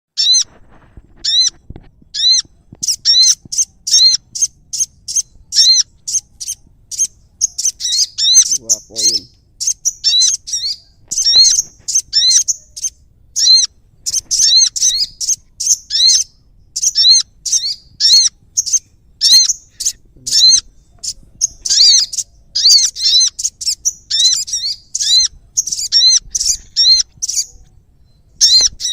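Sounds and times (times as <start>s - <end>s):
bird chirping: 0.2s - 28.9s.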